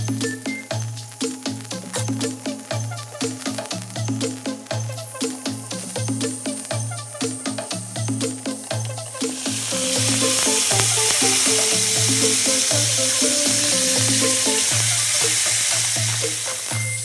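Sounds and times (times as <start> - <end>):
background music: 0.0 - 17.0
meat sizzling in a pan: 0.3 - 17.0.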